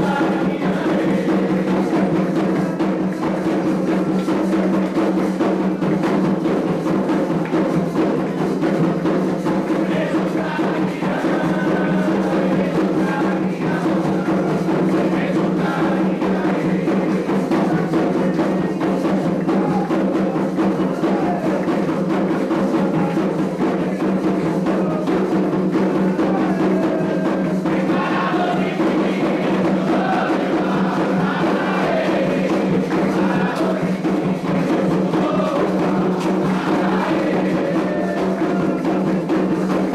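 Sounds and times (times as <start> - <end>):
hand drums beating: 0.0 - 39.9
voices singing: 0.0 - 39.9.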